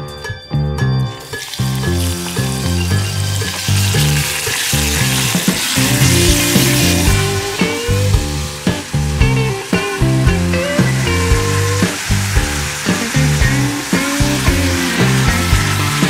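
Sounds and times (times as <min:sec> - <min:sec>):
background music with steady beat: 0:00.0 - 0:16.0
beef sizzling in a pot: 0:01.2 - 0:16.0.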